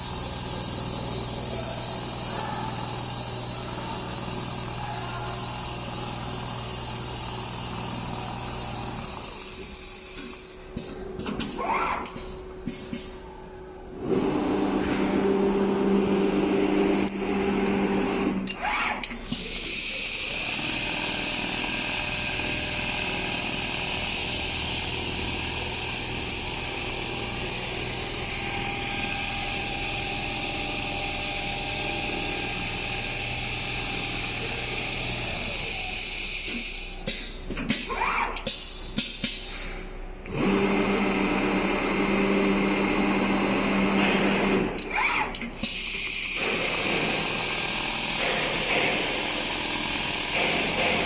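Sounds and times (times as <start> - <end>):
sewing machine motor hum: 0.0 - 10.6, 14.0 - 36.2, 40.2 - 44.8, 46.4 - 51.0.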